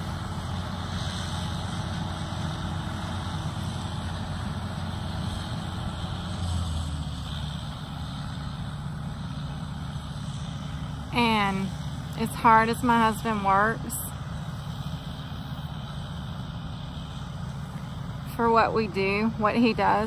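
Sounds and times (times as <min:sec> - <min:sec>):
combine harvester engine hum: 0:00.0 - 0:20.0.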